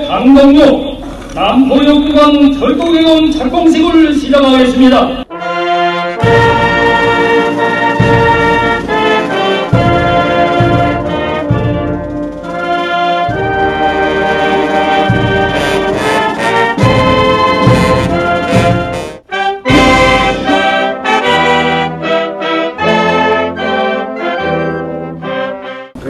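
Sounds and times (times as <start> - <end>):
brass band playing chords: 0.0 - 26.0.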